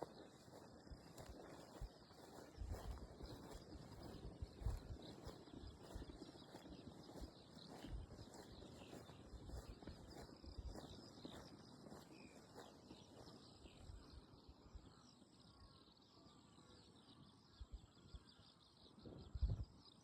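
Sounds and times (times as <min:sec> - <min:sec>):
distant birds chirping: 0:00.0 - 0:19.7.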